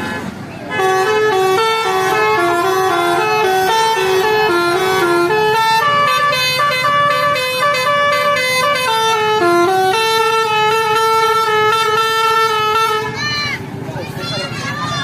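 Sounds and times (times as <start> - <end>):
bus horn playing a melody: 0.0 - 13.2.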